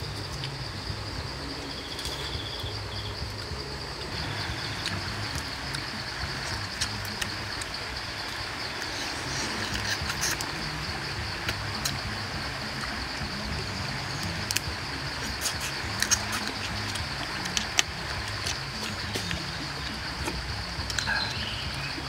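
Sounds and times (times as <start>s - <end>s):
forest insects buzzing: 0.0s - 22.0s
low background rumble: 0.0s - 22.0s.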